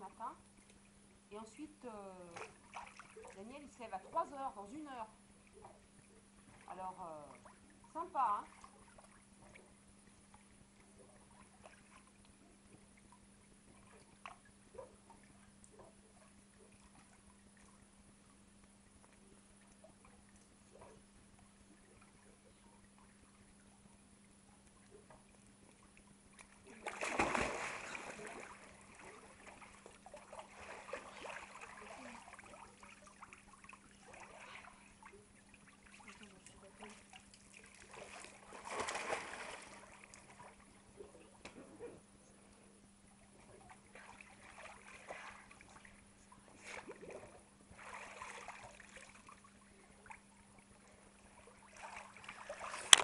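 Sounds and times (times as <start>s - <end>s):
pool water splashing: 0.0s - 42.2s, 42.8s - 53.0s
faint steady hum: 0.0s - 53.0s.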